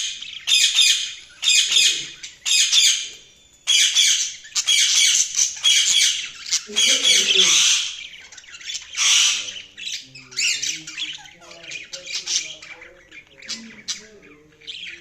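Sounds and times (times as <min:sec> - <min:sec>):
budgerigars chirping and squawking: 0:00.0 - 0:15.0
warbling bird chatter: 0:00.0 - 0:15.0.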